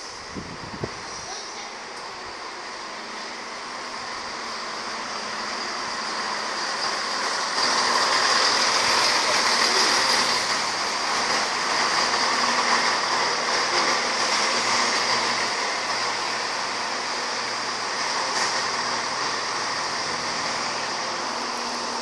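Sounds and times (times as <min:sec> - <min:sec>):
diesel train passing: 0:00.0 - 0:22.0.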